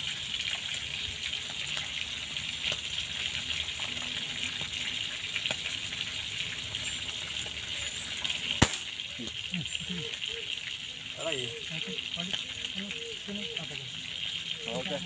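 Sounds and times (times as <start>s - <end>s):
meat frying hiss: 0.0s - 15.0s.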